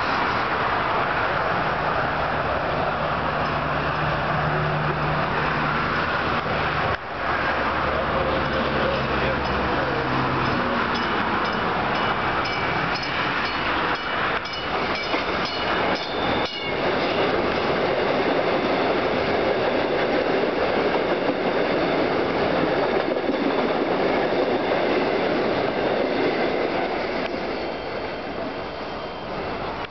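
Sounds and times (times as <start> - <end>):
train passing at speed: 0.0 - 29.9
wheels rushing on rails: 0.0 - 29.9.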